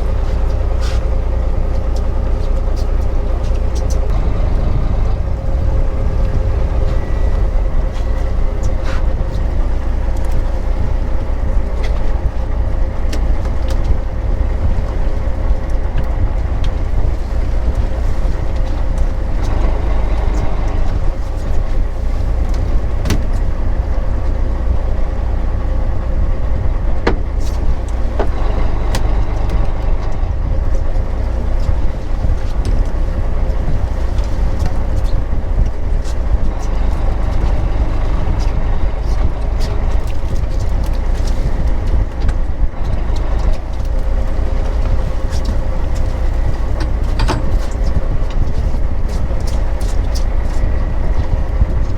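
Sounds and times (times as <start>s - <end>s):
boat engine low rumble: 0.0s - 51.9s.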